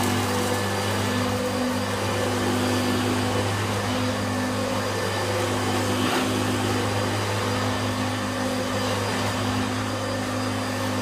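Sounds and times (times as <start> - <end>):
upright vacuum cleaner running: 0.0 - 11.0.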